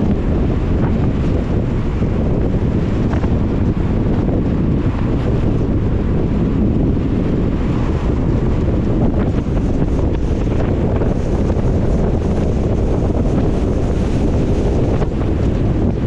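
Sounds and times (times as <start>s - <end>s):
car driving on wet road: 0.0s - 16.0s.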